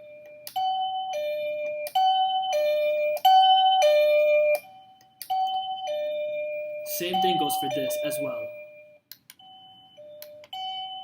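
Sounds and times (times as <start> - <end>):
doorbell ding-dong chime: 0.0 - 11.0.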